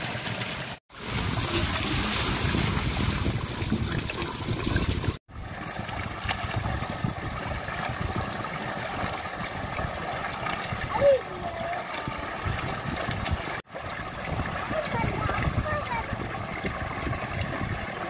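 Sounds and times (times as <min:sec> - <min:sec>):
water pouring into metal basin: 0:00.0 - 0:18.0
water splashing on ground: 0:00.0 - 0:18.0.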